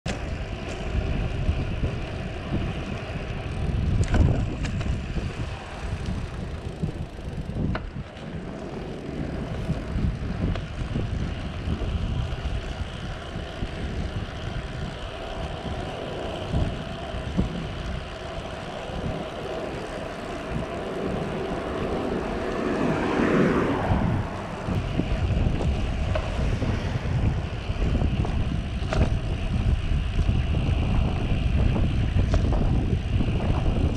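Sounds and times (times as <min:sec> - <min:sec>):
tyre road noise: 0:00.0 - 0:33.9
wind buffeting microphone: 0:00.0 - 0:33.9.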